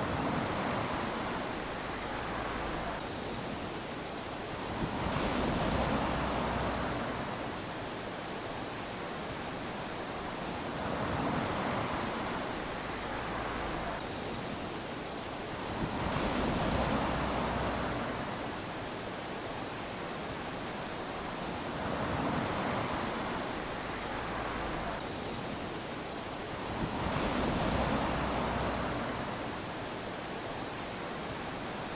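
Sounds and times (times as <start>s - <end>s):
small waves lapping on sand: 0.0s - 31.9s.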